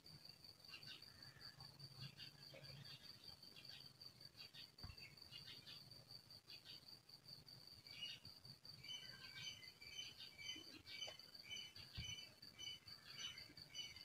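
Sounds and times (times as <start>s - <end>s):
insects trilling: 0.0s - 14.0s
bird chirps: 0.7s - 6.9s, 7.8s - 14.0s.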